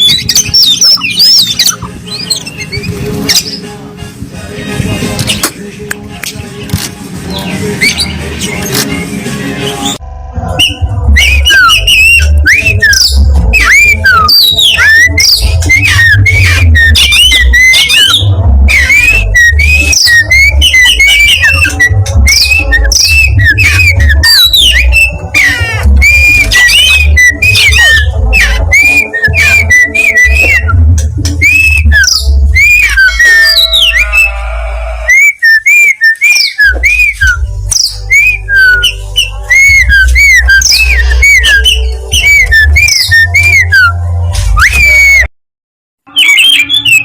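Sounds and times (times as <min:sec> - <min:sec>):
magpie-robin singing: 0:00.0 - 0:03.8, 0:06.4 - 0:45.3, 0:46.1 - 0:47.0.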